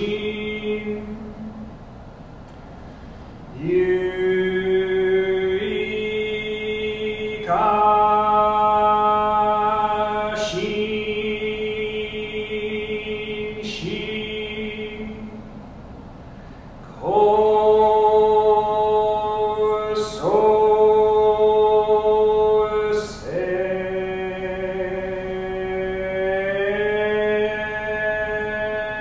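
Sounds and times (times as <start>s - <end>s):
man chanting: 0.0s - 1.6s, 3.5s - 15.5s, 16.8s - 29.0s.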